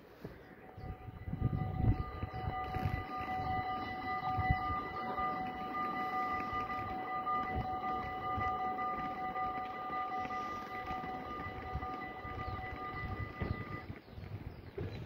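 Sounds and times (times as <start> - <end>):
level crossing bells ringing: 0.0 - 13.9
continuous warning tone: 0.0 - 14.1
low rumble: 0.3 - 13.9.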